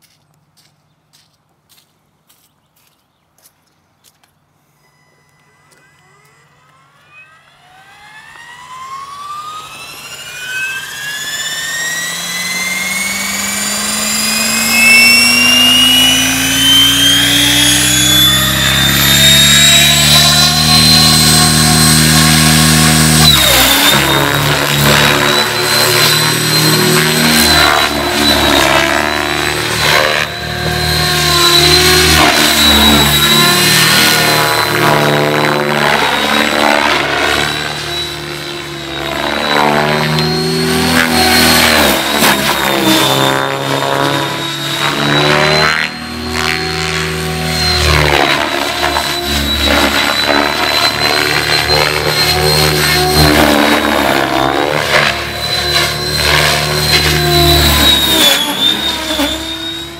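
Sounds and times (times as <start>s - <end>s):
helicopter motor whine: 4.6s - 59.9s
rotor blade noise: 4.8s - 59.9s.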